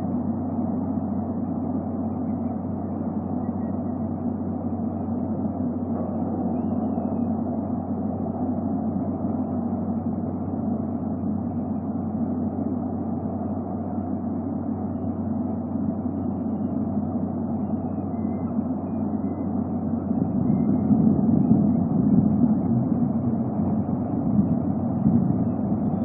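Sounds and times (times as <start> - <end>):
constant low hum: 0.0 - 26.0
low rumbling background noise: 0.0 - 26.0.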